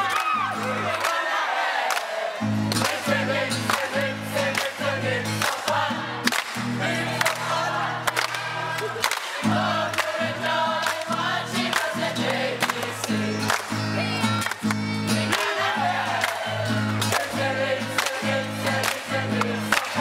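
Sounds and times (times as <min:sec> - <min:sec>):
hand claps: 0:00.0 - 0:20.0
group of young voices singing: 0:00.4 - 0:14.4, 0:15.0 - 0:20.0
strummed acoustic guitar: 0:02.3 - 0:20.0.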